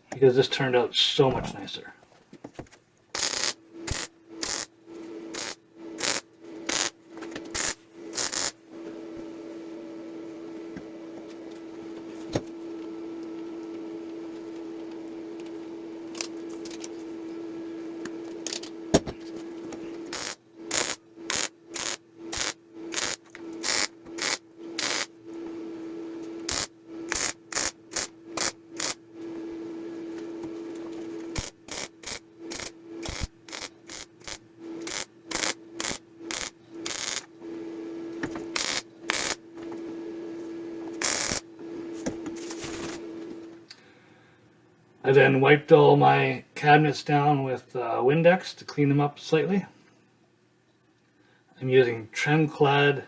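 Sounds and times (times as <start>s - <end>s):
steady hum: 3.0s - 53.0s.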